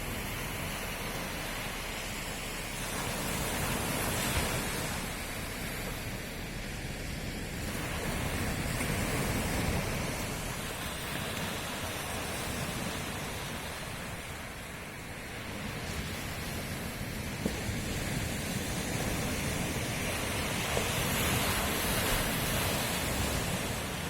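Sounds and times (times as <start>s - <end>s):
ocean waves on shore: 0.0s - 24.0s.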